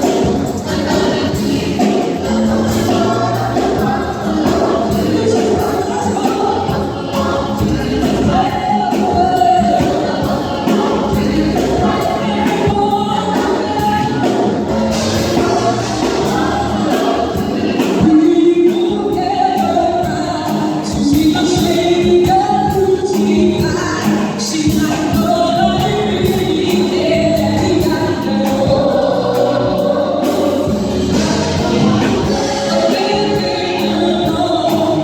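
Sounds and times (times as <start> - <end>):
gospel choir singing: 0.0 - 35.0
instrumental accompaniment with beat: 0.0 - 35.0.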